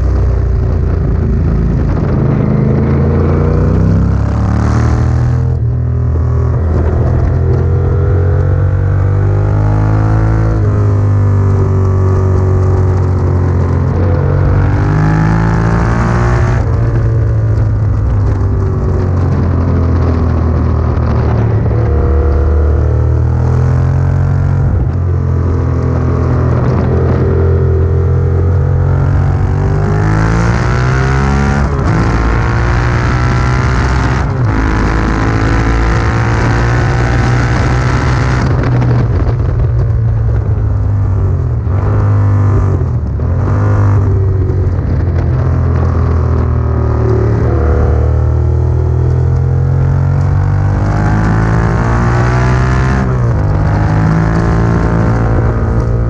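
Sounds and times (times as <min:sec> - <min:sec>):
low rumble: 0:00.0 - 0:56.0
motorcycle engine revving: 0:00.0 - 0:56.0.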